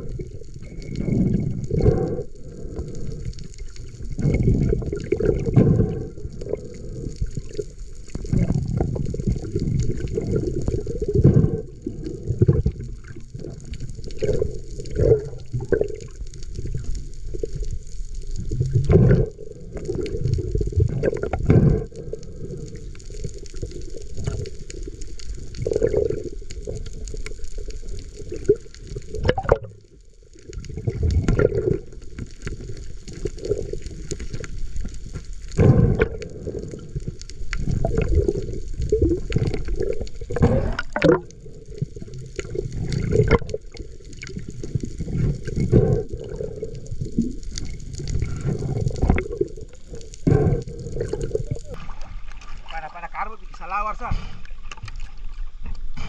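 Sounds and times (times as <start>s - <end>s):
underwater sloshing and bubbling: 0.0s - 56.0s.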